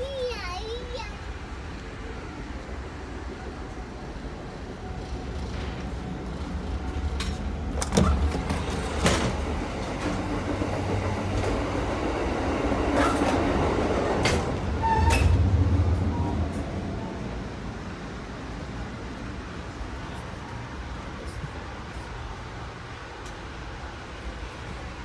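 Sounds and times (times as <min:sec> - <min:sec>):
train running gear rumble: 0:00.0 - 0:25.0.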